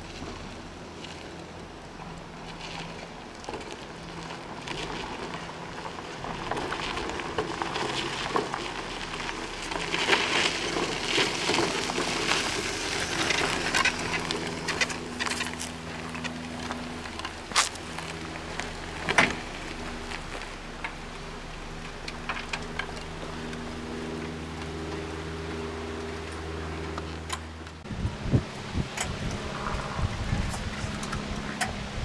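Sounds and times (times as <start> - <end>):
tyres crunching on gravel: 0.0 - 31.6.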